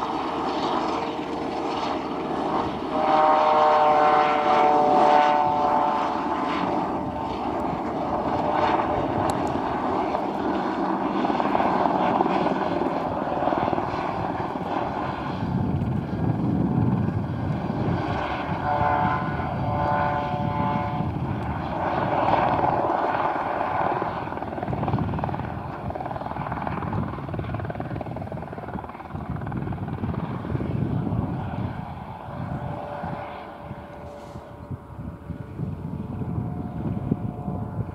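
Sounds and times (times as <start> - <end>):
helicopter flying: 0.0 - 37.9.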